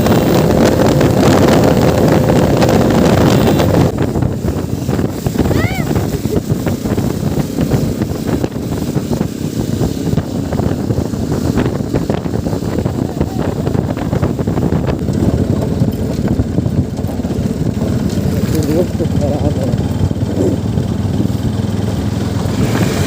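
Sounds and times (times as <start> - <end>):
motorcycle engine rumble: 0.0 - 23.0
wind buffeting on microphone: 0.0 - 23.0.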